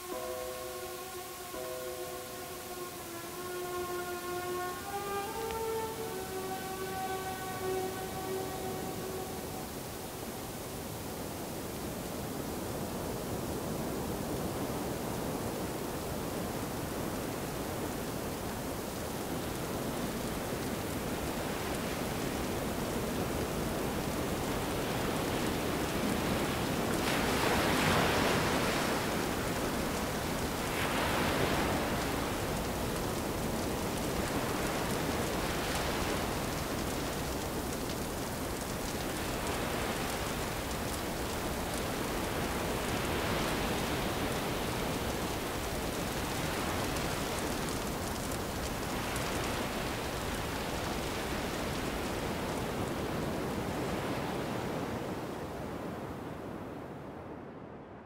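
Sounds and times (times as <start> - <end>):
ocean surf on a beach: 0.0 - 58.0.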